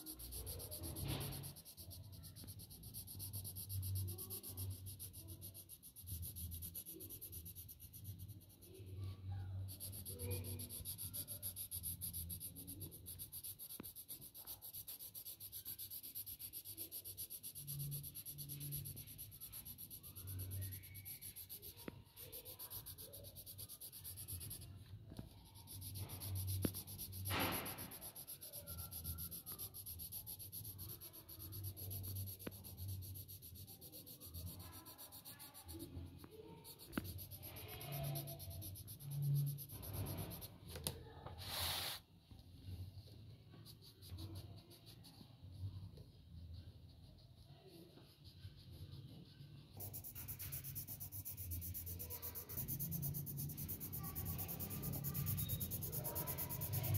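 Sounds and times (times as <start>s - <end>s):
pencil shading on paper: 0.0s - 56.9s.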